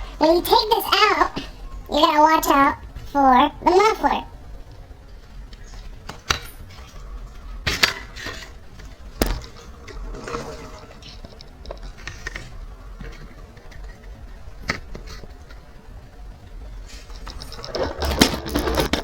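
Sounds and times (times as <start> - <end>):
rubbing and rattling: 0.0 - 19.0.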